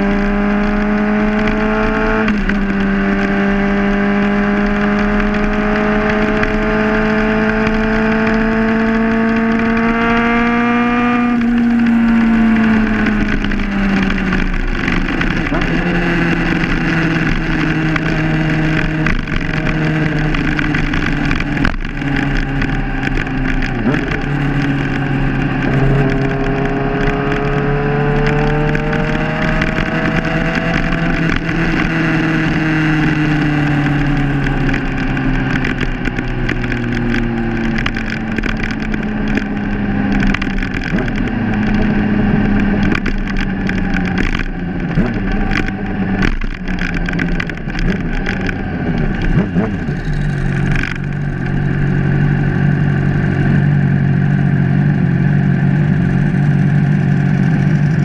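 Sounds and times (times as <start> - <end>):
motorcycle engine: 0.0 - 58.0
wind and road noise: 0.0 - 58.0.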